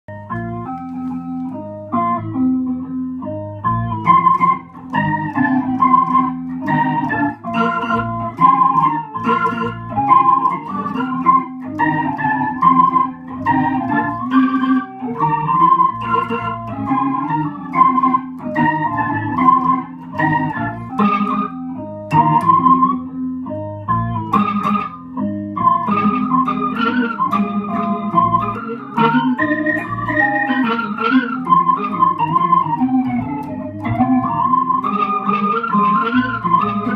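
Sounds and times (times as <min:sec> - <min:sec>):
organ-like guitar synth chords: 0:00.1 - 0:36.9.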